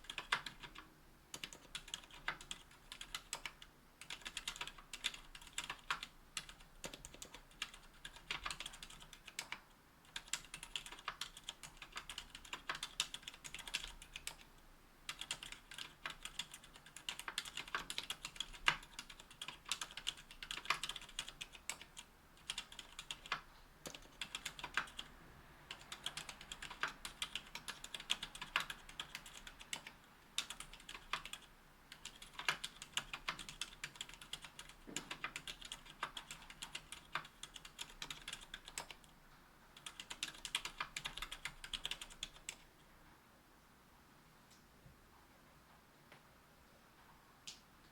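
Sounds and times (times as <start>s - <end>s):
fast typing on mechanical keyboard: 0.0s - 14.5s, 15.1s - 25.1s, 25.7s - 39.0s, 39.8s - 42.6s.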